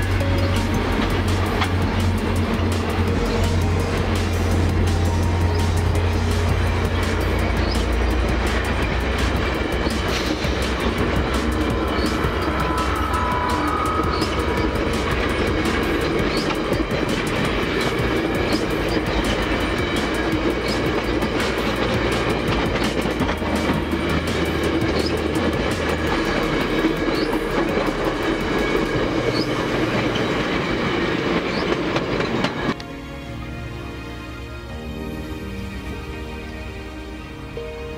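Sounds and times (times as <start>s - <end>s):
clickety-clack over rail joints: 0.0s - 32.8s
train wheels rumbling on rail: 0.0s - 37.9s.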